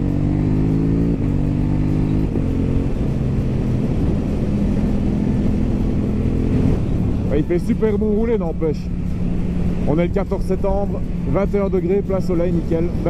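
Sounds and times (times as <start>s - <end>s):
motorcycle engine accelerating: 0.0s - 13.0s
wind rush: 0.8s - 13.0s.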